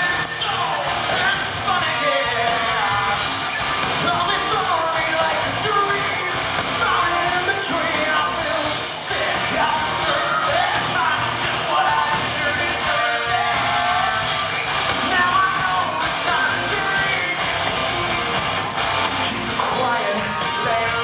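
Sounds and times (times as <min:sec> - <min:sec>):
man singing into microphone: 0:00.0 - 0:03.2, 0:04.0 - 0:14.2, 0:15.0 - 0:17.5, 0:19.2 - 0:21.0
live rock band: 0:00.0 - 0:21.0.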